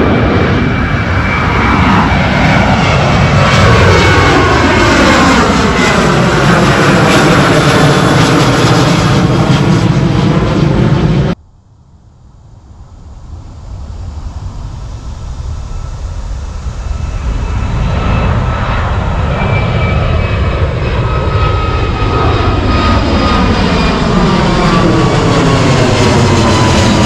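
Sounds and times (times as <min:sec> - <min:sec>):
high engine whine: 0:00.0 - 0:27.0
jet airliner flying over: 0:00.0 - 0:27.0.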